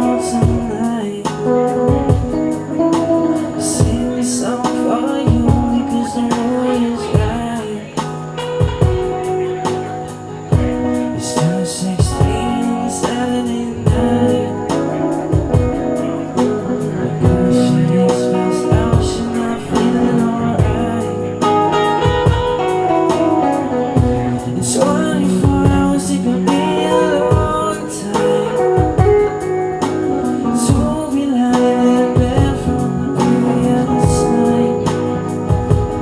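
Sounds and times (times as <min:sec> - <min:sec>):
live reggae band: 0:00.0 - 0:36.0.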